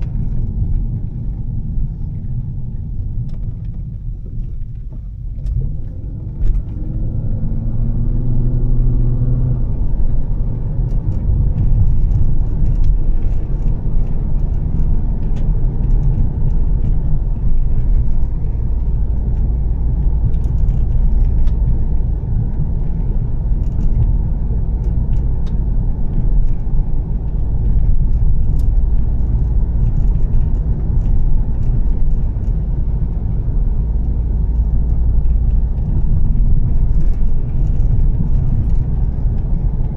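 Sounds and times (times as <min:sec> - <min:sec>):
car engine accelerating: 0:00.0 - 0:39.9
engine and road rumble: 0:00.0 - 0:39.9.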